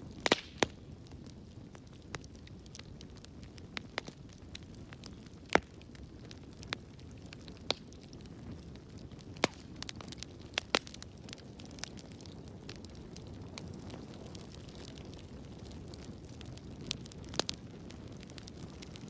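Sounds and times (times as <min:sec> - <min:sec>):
fire crackling and popping: 0:00.0 - 0:19.0
fire low rumble: 0:00.0 - 0:19.0.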